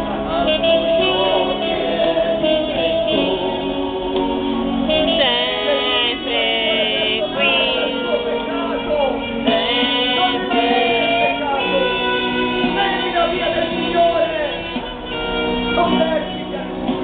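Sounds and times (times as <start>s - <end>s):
person singing long notes: 0.0s - 15.2s
guitar accompaniment: 0.0s - 17.0s.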